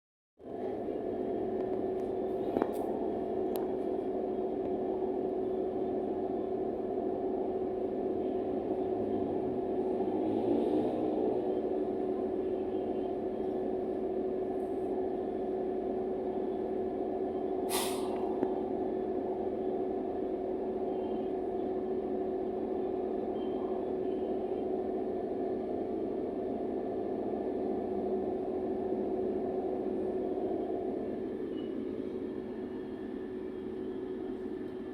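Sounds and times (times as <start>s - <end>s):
bus interior low hum drone: 0.4s - 34.9s.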